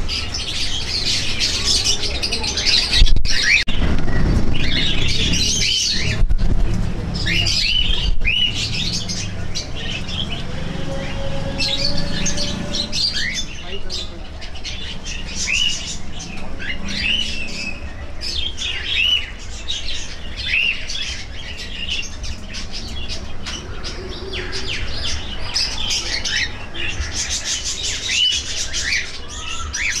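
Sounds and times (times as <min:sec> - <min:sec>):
flock of birds chirping: 0:00.0 - 0:30.0.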